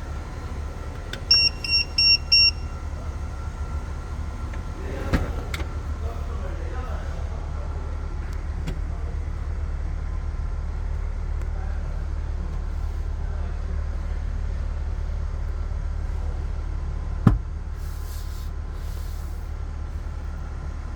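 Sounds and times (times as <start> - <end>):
vehicle rumble: 0.0 - 20.9.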